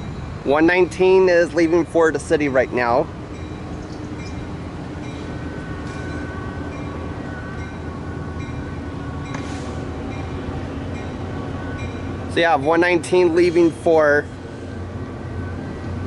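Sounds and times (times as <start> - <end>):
diesel locomotive engine hum: 0.0 - 16.0
train wheels rolling rumble: 0.0 - 16.0.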